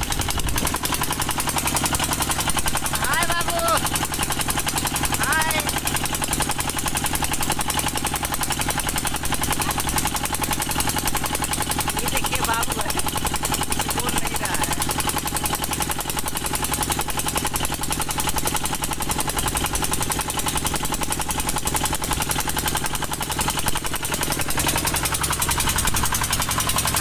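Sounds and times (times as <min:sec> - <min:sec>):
motor boat engine running: 0:00.0 - 0:27.0.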